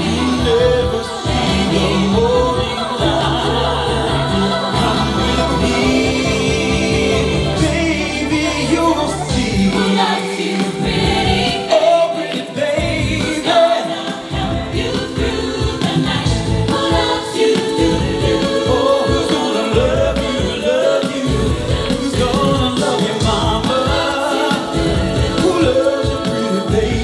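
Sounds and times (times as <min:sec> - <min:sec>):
backing band: 0:00.0 - 0:27.0
vocal group singing in harmony: 0:00.0 - 0:27.0.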